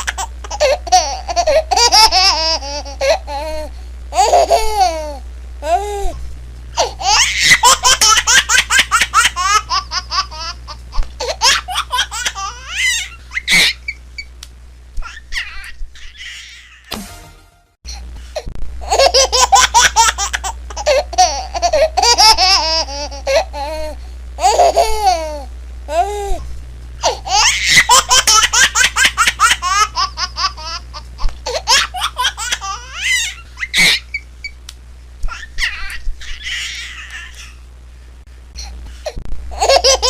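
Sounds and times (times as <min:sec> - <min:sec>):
baby laughing: 0:00.0 - 0:06.0, 0:06.8 - 0:14.0, 0:15.0 - 0:16.9, 0:18.8 - 0:26.4, 0:27.0 - 0:34.2, 0:35.3 - 0:37.6, 0:39.5 - 0:40.0
low steady hum: 0:00.0 - 0:40.0.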